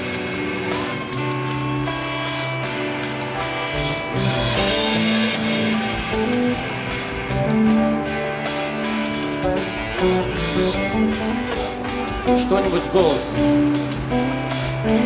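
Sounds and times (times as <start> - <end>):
drum kit beat: 0.0 - 15.0
guitar melody: 0.0 - 15.0.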